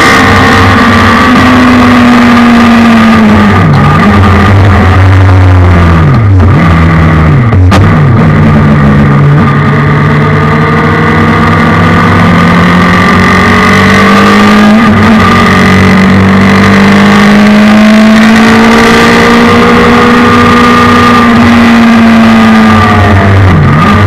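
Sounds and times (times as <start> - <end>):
race car engine under load: 0.0 - 24.0.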